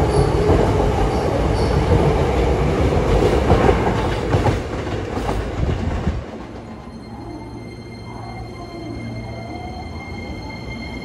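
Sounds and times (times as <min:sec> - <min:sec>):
electric train rumbling past: 0:00.0 - 0:11.0.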